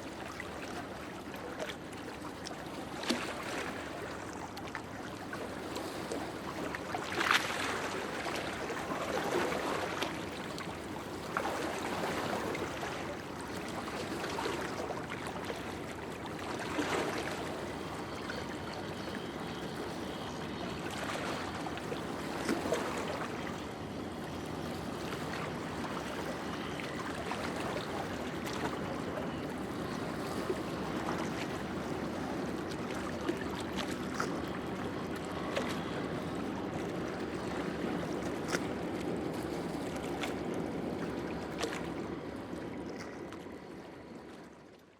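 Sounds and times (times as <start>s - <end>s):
lake waves lapping on shore: 0.0s - 44.8s.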